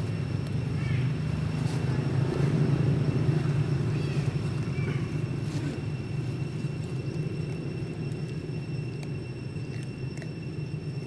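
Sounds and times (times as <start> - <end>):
high-pitched whine: 0.0 - 11.0
low engine rumble: 0.0 - 11.0.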